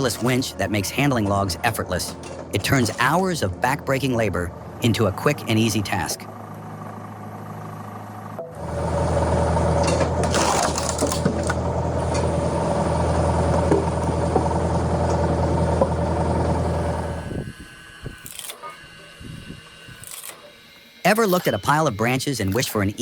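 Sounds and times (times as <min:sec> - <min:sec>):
log splitter engine running: 0:00.0 - 0:20.3.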